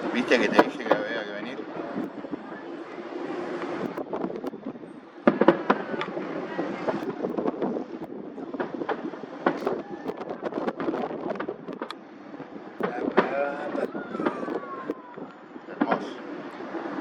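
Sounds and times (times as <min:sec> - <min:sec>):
background rumble: 0:00.0 - 0:17.0
fireworks bangs: 0:00.0 - 0:17.0
fireworks popping and crackling: 0:00.1 - 0:02.4, 0:03.2 - 0:17.0.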